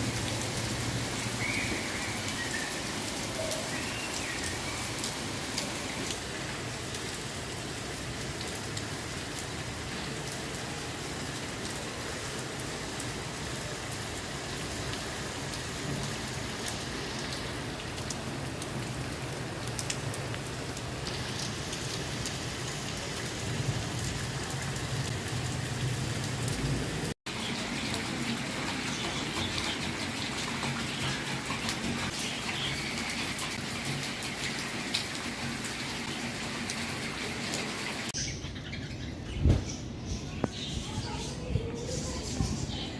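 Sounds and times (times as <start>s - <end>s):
heavy rain falling: 0.0s - 38.2s.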